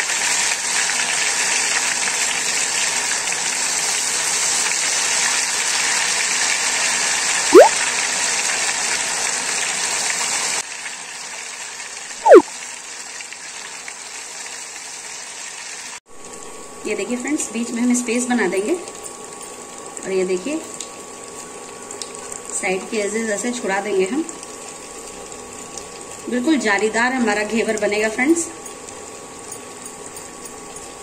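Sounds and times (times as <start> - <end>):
batter sizzling in hot oil: 0.0 - 31.0.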